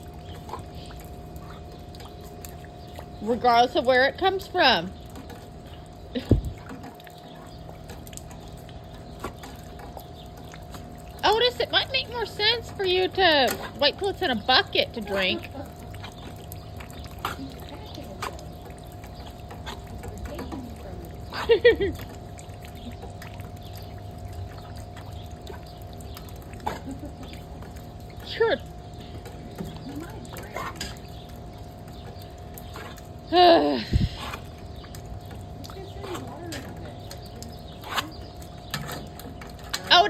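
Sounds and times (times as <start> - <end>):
rainwater running and dripping: 0.0 - 40.0.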